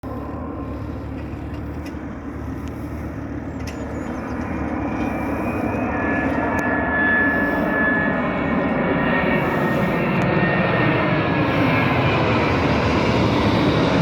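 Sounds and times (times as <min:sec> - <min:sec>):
jet engines rumbling: 0:00.0 - 0:14.0
thin engine whine: 0:00.0 - 0:14.0.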